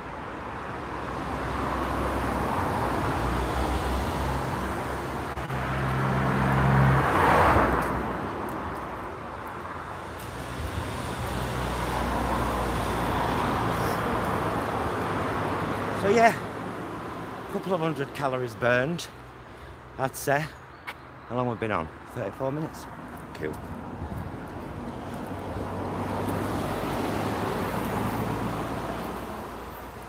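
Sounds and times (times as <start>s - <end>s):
car engine and tyre noise: 0.0s - 30.0s
road traffic passing: 0.0s - 30.0s.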